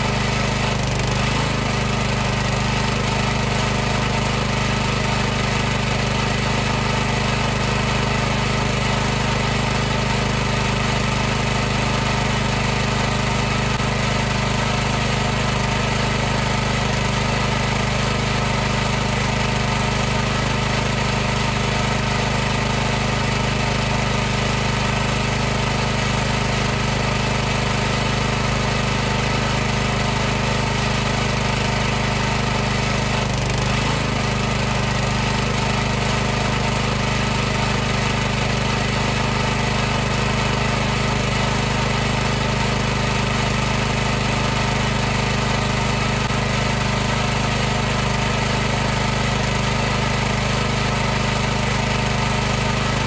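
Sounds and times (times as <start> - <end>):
pressure washer motor running: 0.0 - 53.0.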